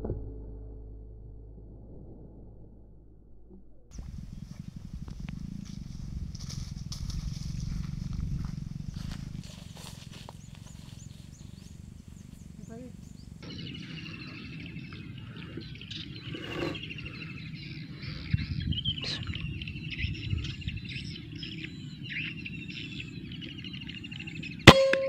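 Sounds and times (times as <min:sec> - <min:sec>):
low rumble: 0:00.0 - 0:24.7
birds or insects chirping: 0:03.9 - 0:25.0.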